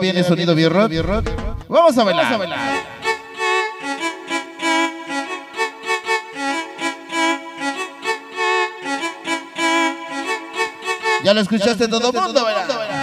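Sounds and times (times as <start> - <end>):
cumbia music with violin: 2.2 - 13.0.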